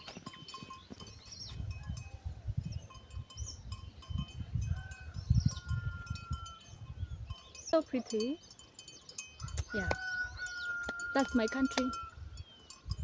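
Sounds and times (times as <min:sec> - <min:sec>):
wind rumble on microphone: 0:00.0 - 0:08.0, 0:09.4 - 0:13.0
birds chirping and whistling: 0:00.0 - 0:13.0.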